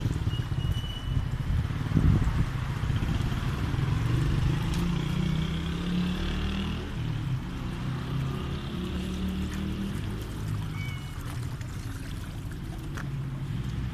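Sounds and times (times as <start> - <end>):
street noise: 0.0 - 13.9.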